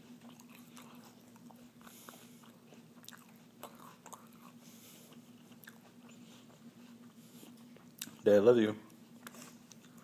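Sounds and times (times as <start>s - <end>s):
dog chewing apple: 0.0s - 8.3s
steady low hum: 0.0s - 10.0s.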